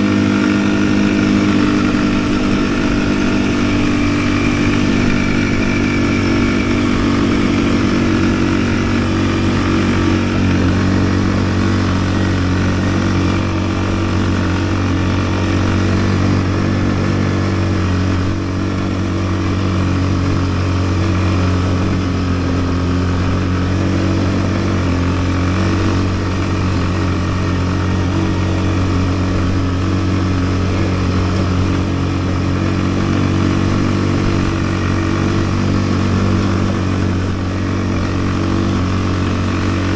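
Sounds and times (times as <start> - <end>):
atv engine running steadily: 0.0 - 39.9.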